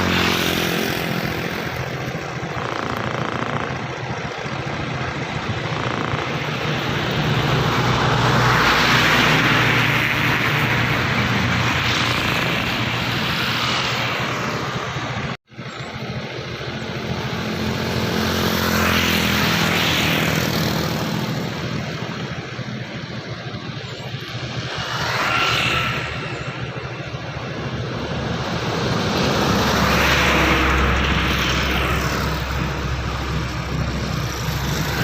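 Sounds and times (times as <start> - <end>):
large vehicles passing at speed: 0.0 - 35.0.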